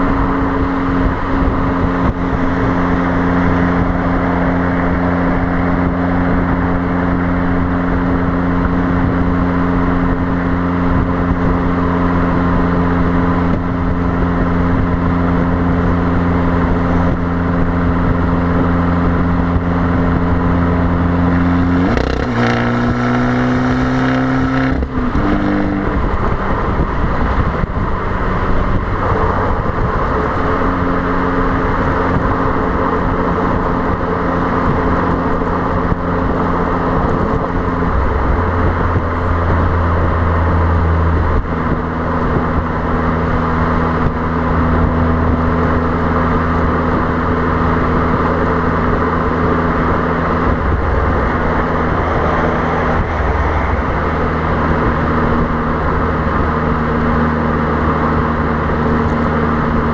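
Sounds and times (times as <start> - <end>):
car exhaust droning: 0.0 - 59.9
wind noise on microphone: 0.0 - 59.9.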